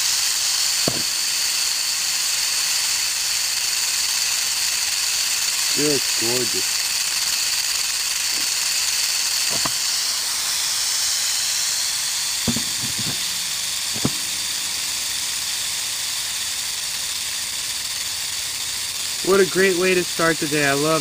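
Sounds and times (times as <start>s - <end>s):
rattlesnake rattling: 0.0s - 21.0s.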